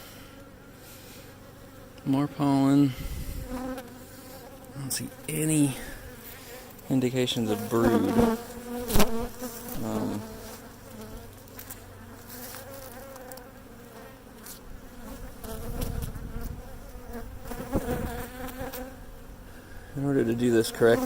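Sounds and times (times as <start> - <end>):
honeybees buzzing: 0.0 - 21.0
hive frames rustling: 3.3 - 21.0.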